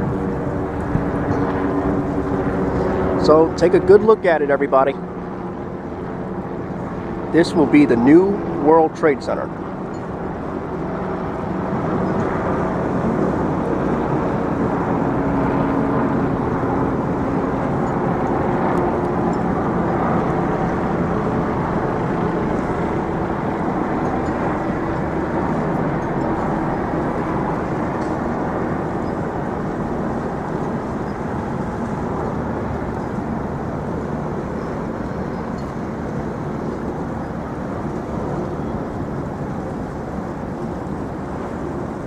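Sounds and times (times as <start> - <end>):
engine rumble: 0.0 - 42.0.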